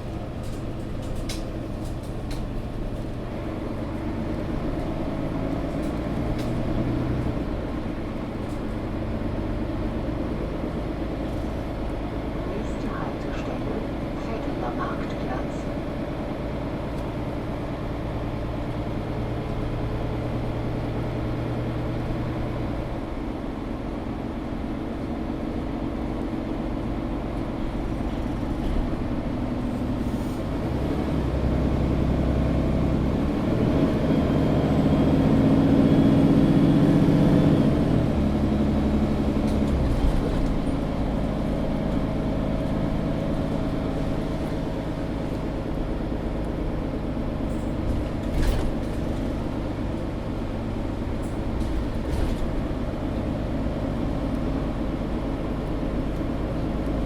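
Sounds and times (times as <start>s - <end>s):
bus diesel engine hum: 0.0s - 57.0s.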